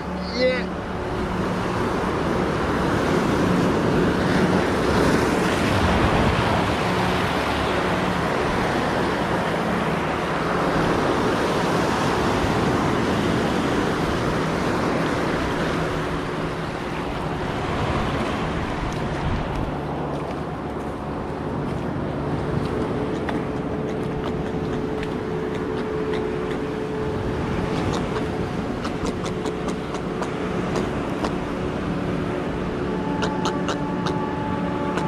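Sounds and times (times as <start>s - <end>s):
wind buffeting microphone: 0.8s - 35.0s.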